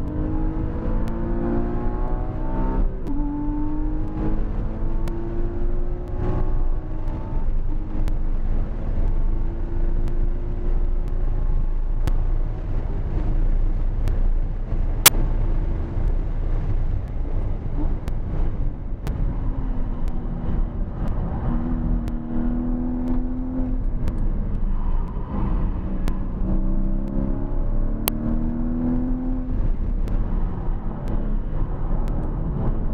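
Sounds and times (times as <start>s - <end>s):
road and tyre noise: 0.0s - 32.9s
sports car engine accelerating: 0.0s - 32.9s.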